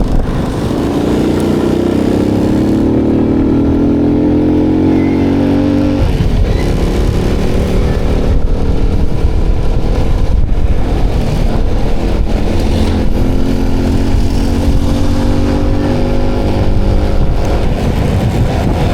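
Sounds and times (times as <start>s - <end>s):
motorcycle engine running: 0.0s - 18.9s
wind on microphone: 0.0s - 18.9s.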